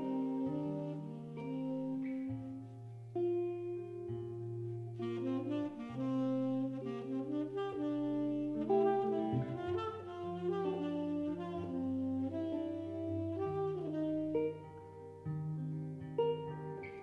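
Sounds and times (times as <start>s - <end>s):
tenor saxophone: 0.0s - 17.0s.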